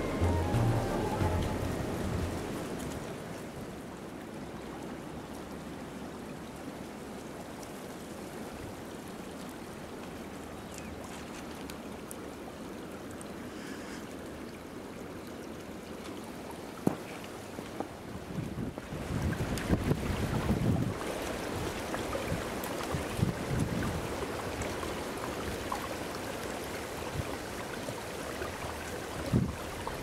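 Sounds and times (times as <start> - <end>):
brook water running: 0.0 - 30.0.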